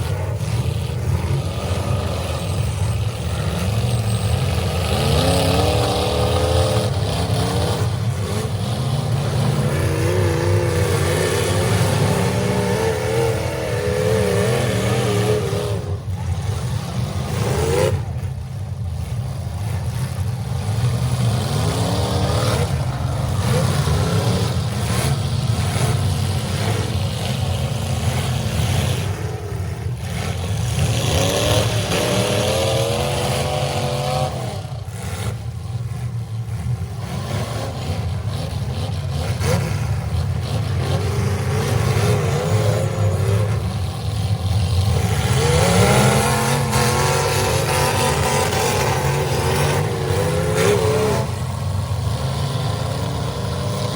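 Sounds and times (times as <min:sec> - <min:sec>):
car engines revving: 0:00.0 - 0:53.9.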